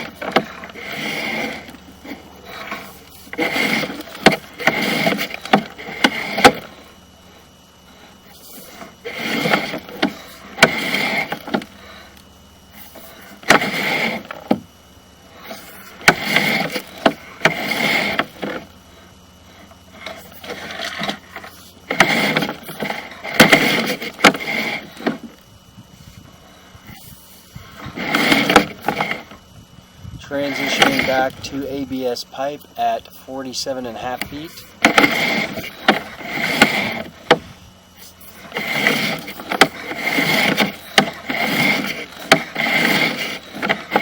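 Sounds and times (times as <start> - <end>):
cable scraping through pipe: 0.0 - 29.6, 30.2 - 44.0.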